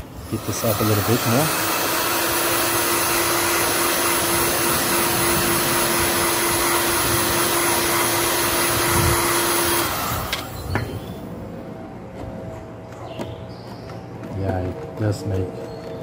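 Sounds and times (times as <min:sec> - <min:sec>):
heat gun fan humming: 0:00.0 - 0:16.0.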